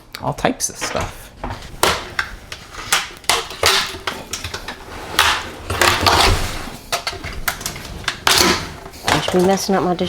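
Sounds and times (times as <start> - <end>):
clicks and knocks of handling: 0.8 - 9.7
scraping or rustling: 0.8 - 10.0.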